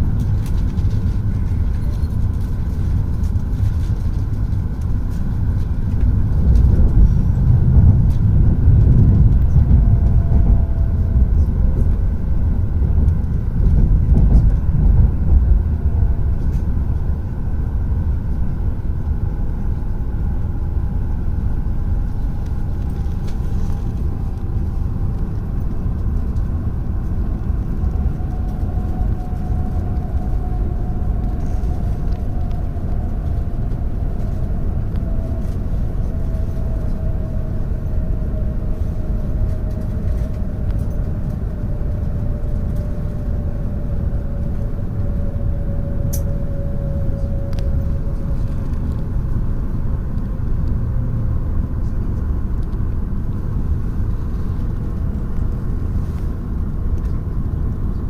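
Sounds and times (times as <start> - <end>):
train rumbling at speed: 0.0 - 58.0
faint whine falling in pitch: 4.0 - 51.6.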